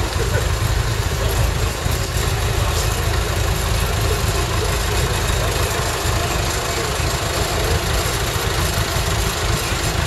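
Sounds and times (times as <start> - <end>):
tractor engines idling: 0.0 - 10.0.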